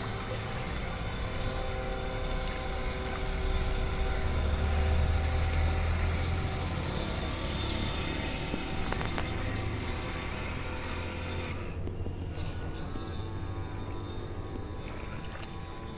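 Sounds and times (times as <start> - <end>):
electric motor whining: 0.0 - 15.9.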